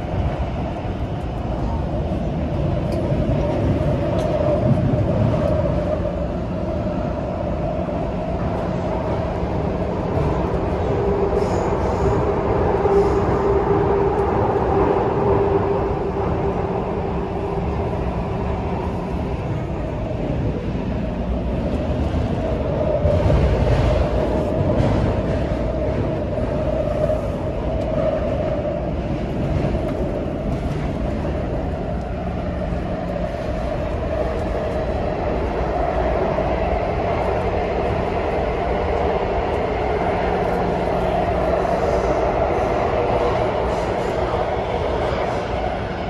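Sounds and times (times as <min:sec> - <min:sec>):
train wheels rumbling on rail: 0:00.0 - 0:46.0
train whine: 0:00.0 - 0:46.0.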